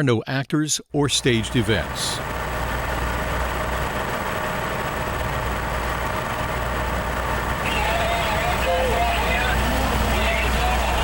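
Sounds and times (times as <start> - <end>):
heavy engine running: 1.0 - 11.0.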